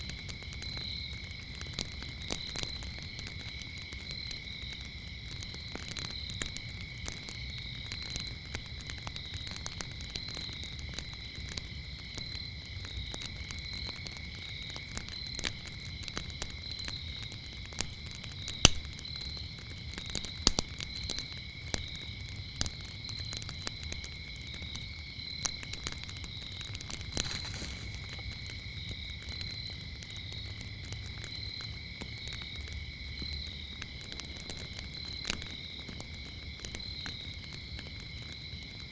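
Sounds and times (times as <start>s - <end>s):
crickets chirping: 0.0s - 38.9s
low rumble of flames: 0.0s - 38.9s
wood fire crackling and popping: 0.0s - 38.9s.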